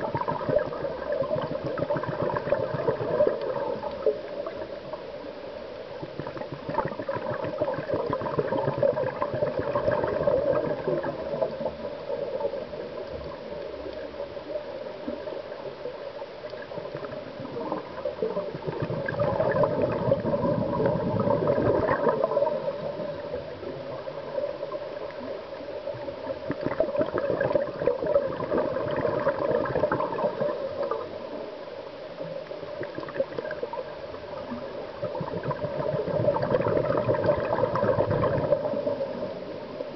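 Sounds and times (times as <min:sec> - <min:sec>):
underwater regulator bubbles: 0:00.0 - 0:05.1, 0:05.9 - 0:31.6, 0:32.2 - 0:39.9.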